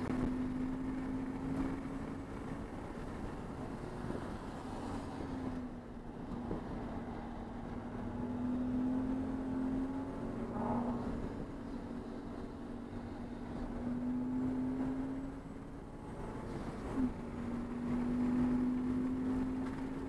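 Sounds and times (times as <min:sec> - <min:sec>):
race car engine at high revs: 0:00.0 - 0:20.0
road and wind noise: 0:00.0 - 0:20.0.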